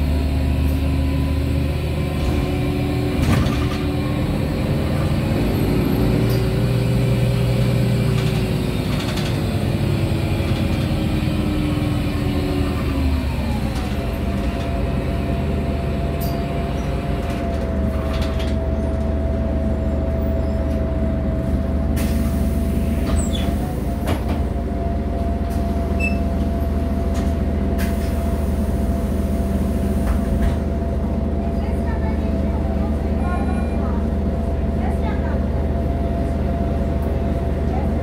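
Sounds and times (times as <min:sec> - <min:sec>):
bus engine hum: 0:00.0 - 0:38.0
constant engine whine: 0:00.0 - 0:38.0.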